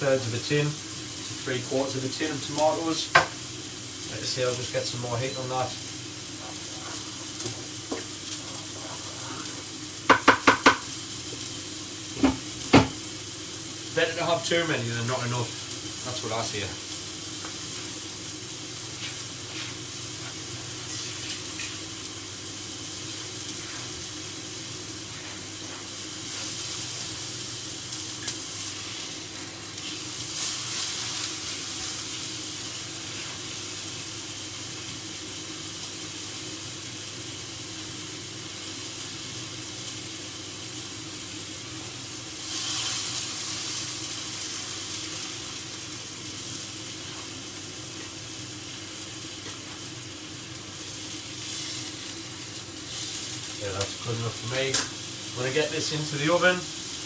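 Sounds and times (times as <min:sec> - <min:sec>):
food sizzling in a hot pan: 0:00.0 - 0:57.0.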